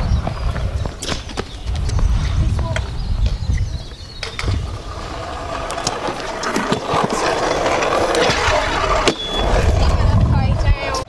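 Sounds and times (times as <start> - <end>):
scooter wheels rolling on concrete: 0.0 - 11.0.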